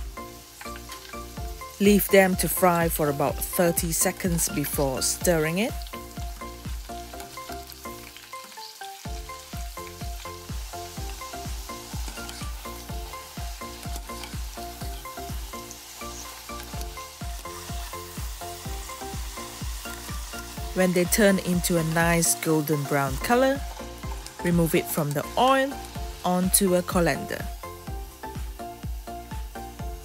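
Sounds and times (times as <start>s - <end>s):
background music with a beat: 0.0s - 20.8s, 21.7s - 30.0s
meat deep-frying in oil: 0.0s - 30.0s.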